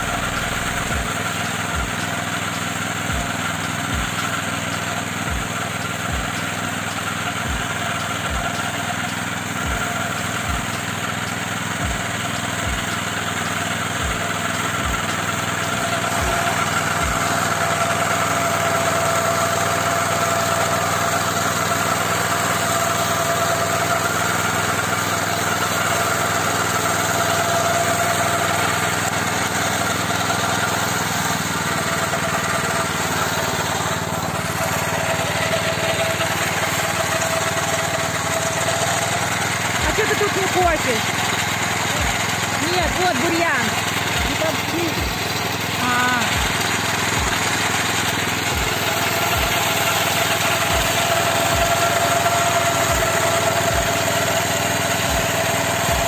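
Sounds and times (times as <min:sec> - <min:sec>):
petrol engine running under load: 0:00.0 - 0:56.0.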